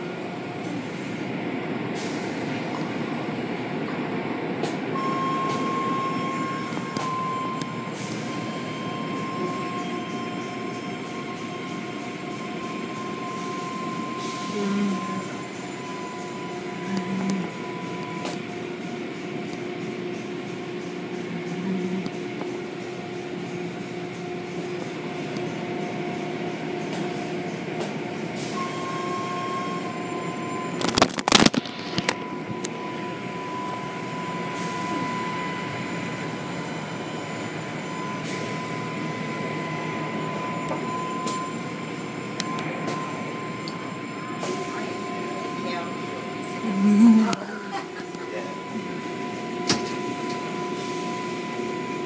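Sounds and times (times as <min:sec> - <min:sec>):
steady high whine: 0:00.0 - 0:52.0.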